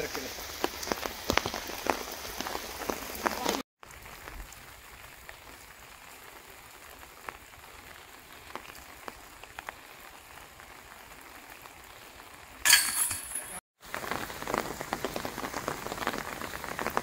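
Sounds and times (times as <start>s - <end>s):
raindrops ticking: 0.0s - 12.6s, 13.8s - 17.0s
light rain hiss: 0.0s - 17.0s.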